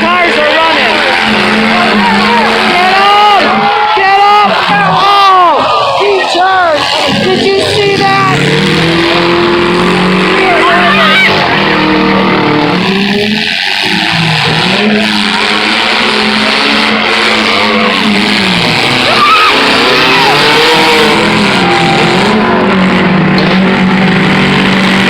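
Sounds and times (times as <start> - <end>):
car engines revving: 0.0 - 25.0
loud steady noise: 0.0 - 25.0.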